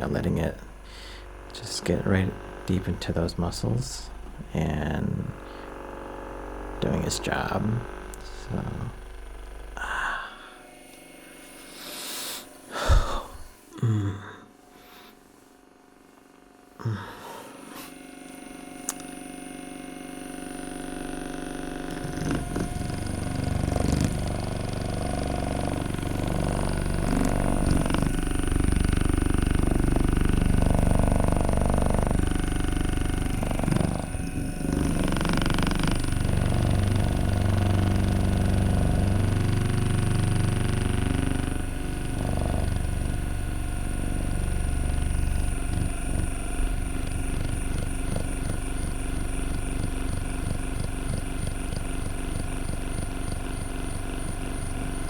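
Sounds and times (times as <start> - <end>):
massage gun motor buzzing: 0.0 - 13.8, 14.5 - 55.0.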